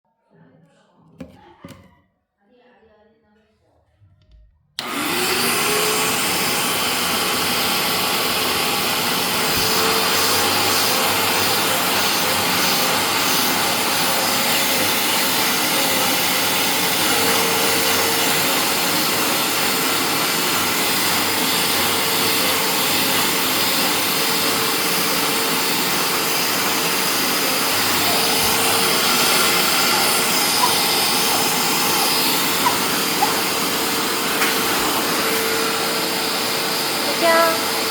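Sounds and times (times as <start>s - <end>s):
carpet cleaner motor running: 4.8s - 37.9s.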